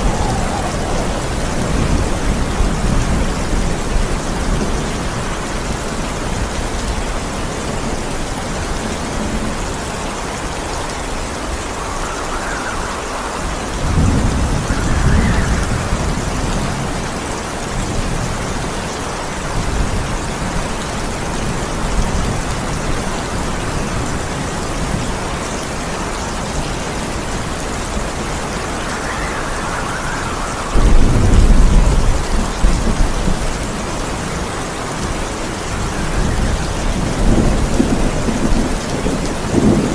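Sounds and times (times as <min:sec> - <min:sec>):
thunder rumbling: 0:00.0 - 0:18.8, 0:19.4 - 0:39.9
heavy rain falling: 0:00.0 - 0:39.9.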